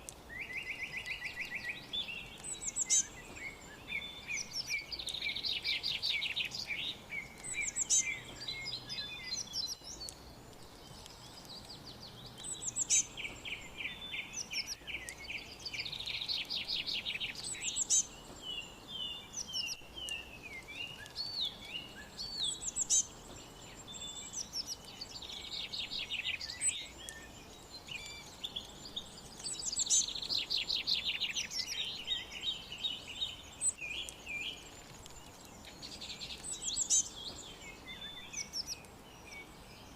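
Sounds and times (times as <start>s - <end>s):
faint steady background hiss: 0.0s - 39.9s
songbirds singing and chirping: 0.0s - 39.9s.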